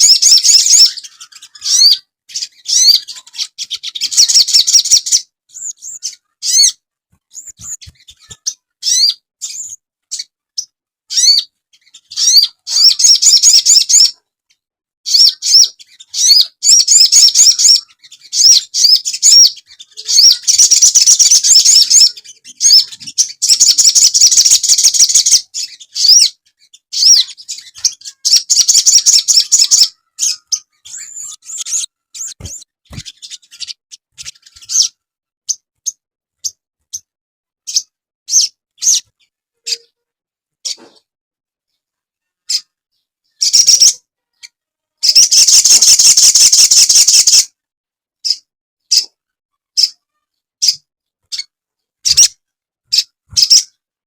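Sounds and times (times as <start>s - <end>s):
bird chirps and trills: 0.0s - 40.0s, 40.6s - 41.1s, 42.4s - 47.5s, 48.2s - 53.8s.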